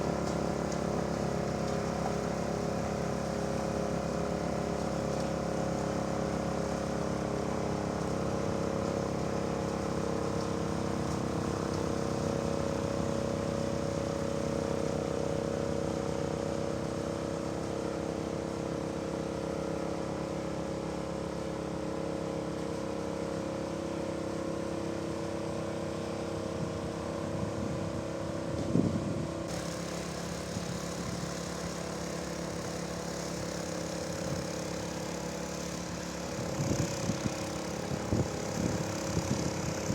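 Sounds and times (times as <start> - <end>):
snowblower engine running: 0.0 - 28.6, 29.4 - 39.9.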